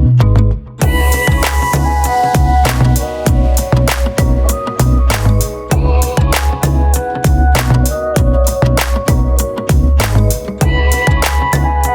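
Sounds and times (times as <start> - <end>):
electronic music with drum beat: 0.8 - 11.9.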